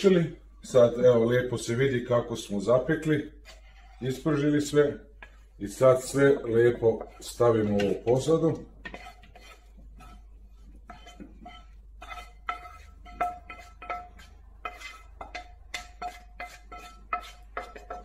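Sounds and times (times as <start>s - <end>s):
spatula scraping frying pan: 2.7s - 18.0s.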